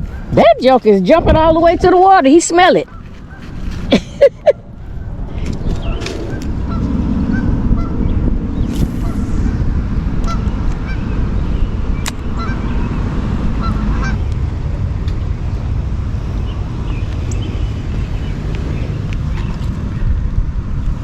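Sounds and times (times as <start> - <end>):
low wind rumble on microphone: 0.0 - 21.0.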